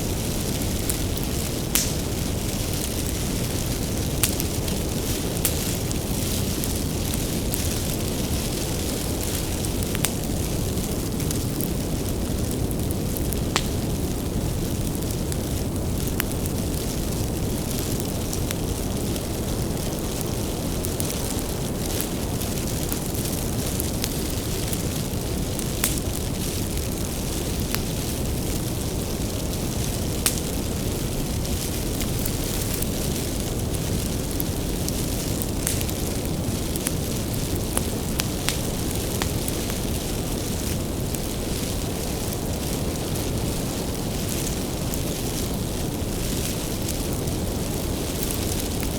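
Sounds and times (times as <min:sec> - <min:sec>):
fire crackling and popping: 0:00.0 - 0:48.9
rumble of bonfire flames: 0:00.0 - 0:48.9.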